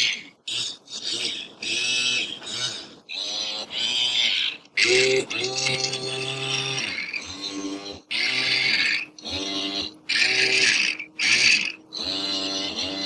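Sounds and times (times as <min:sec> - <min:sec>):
servo motors whining: 0:01.6 - 0:13.0.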